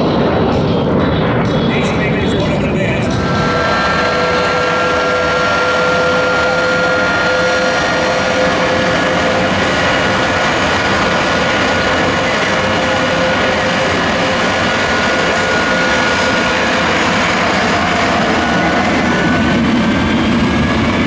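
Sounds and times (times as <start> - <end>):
high steady whine: 0.0 - 21.0
jet engine roaring: 0.0 - 21.0.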